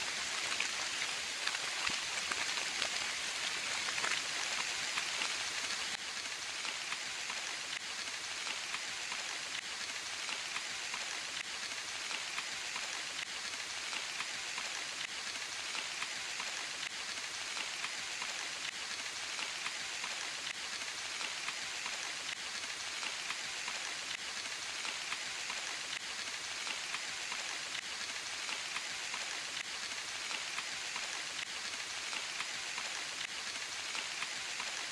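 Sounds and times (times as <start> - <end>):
rain on leaves: 0.0 - 34.9.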